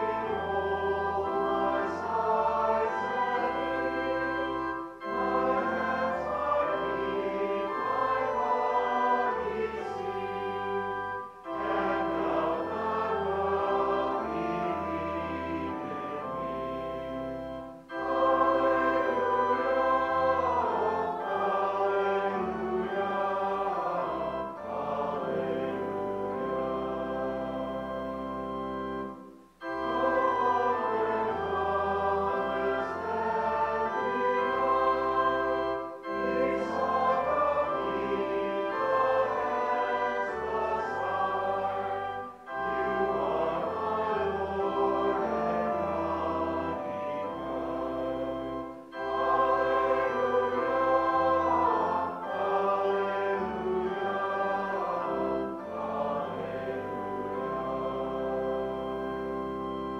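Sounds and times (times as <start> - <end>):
group singing a hymn: 0.0 - 16.8, 17.8 - 27.2, 29.6 - 59.8
organ accompaniment: 0.0 - 59.9.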